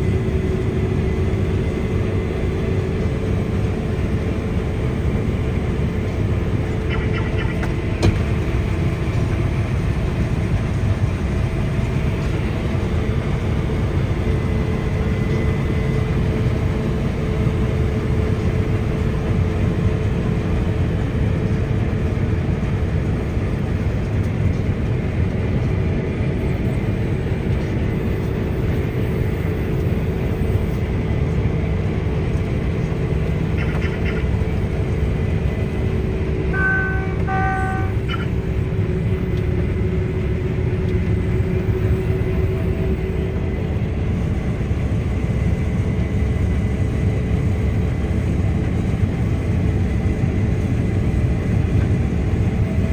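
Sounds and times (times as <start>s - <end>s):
combine harvester rumbling: 0.0s - 52.9s.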